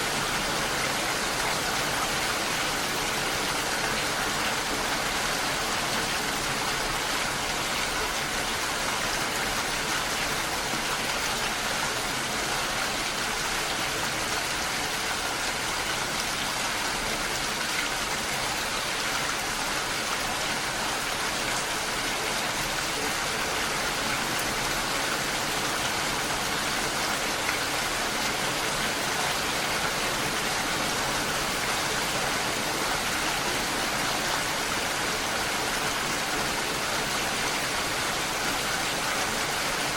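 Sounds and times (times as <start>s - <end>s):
rain falling on lake: 0.0s - 39.9s.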